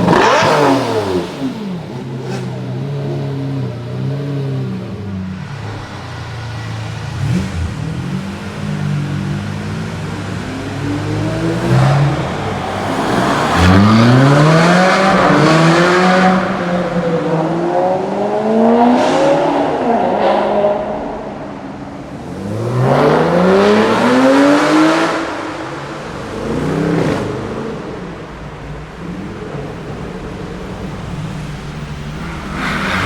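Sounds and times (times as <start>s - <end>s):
car engines accelerating in tunnel: 0.0s - 33.0s.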